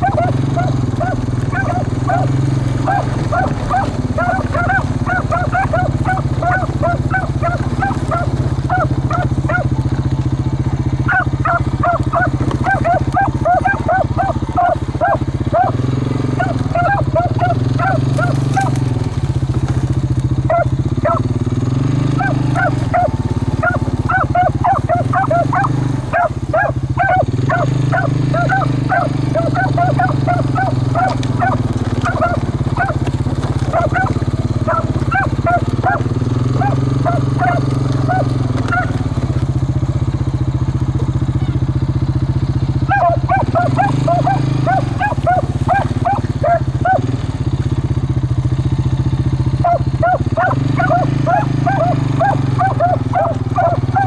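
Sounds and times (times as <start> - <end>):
beagles baying: 0.0 - 54.0
dogs barking: 0.0 - 54.0
vehicle engine drone: 0.0 - 54.0.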